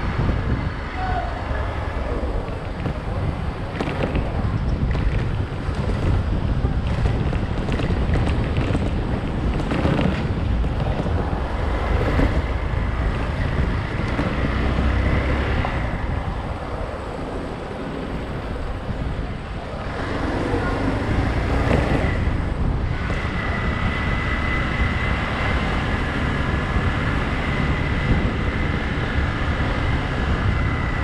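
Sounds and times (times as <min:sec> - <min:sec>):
road noise: 0:00.0 - 0:31.0
wind buffeting microphone: 0:00.0 - 0:31.0.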